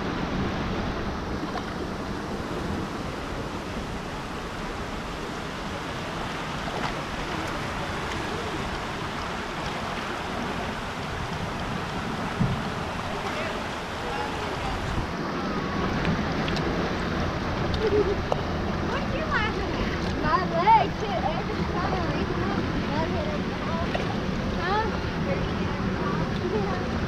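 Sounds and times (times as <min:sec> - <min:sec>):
rushing water splashing: 0:00.0 - 0:27.0.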